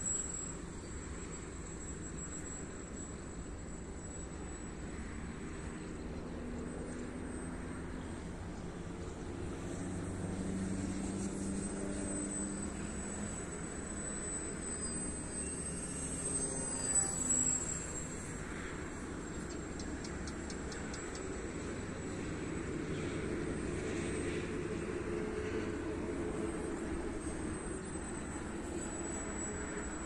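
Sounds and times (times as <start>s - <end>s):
distant model plane propeller drone: 0.0s - 30.0s.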